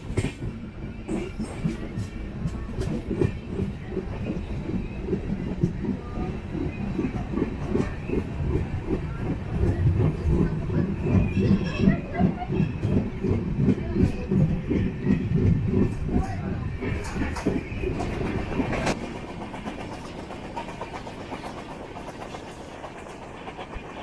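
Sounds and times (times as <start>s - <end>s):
train coach rumble: 0.0s - 24.0s.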